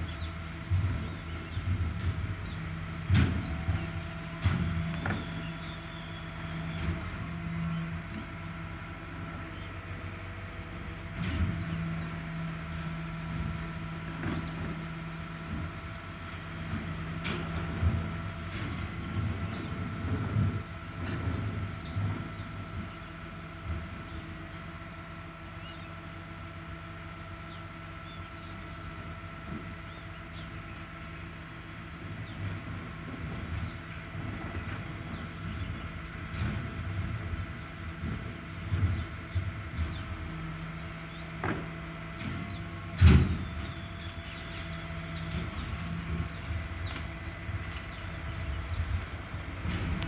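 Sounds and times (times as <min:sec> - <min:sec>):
birds chirping: 0:00.0 - 0:19.8, 0:20.7 - 0:50.0
garbage truck engine humming: 0:00.0 - 0:50.0.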